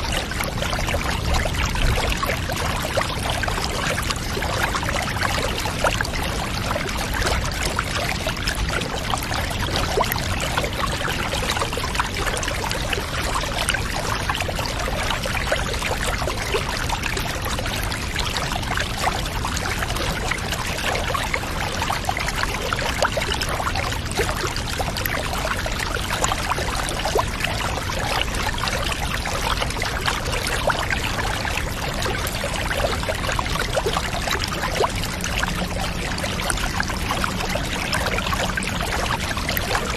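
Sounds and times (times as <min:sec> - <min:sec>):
running and splashing water: 0:00.0 - 0:39.9.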